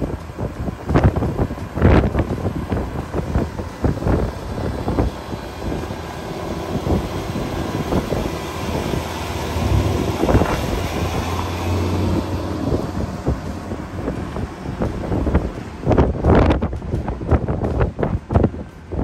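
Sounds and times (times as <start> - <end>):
engine humming: 0.0 - 19.0
wind buffeting microphone: 0.0 - 19.0.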